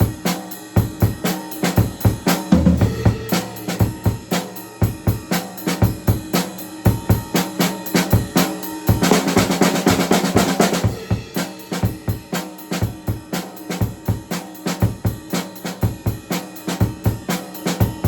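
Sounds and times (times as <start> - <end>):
drum kit playing: 0.0 - 18.0.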